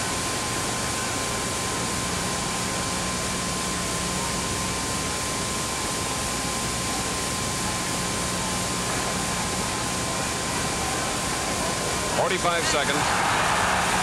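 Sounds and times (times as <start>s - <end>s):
television soundtrack hiss: 0.0s - 14.0s.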